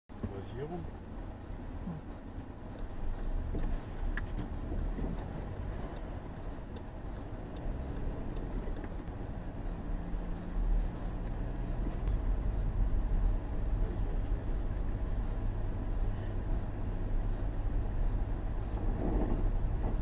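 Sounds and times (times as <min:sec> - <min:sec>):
car engine and tyre rumble: 0:00.1 - 0:20.0.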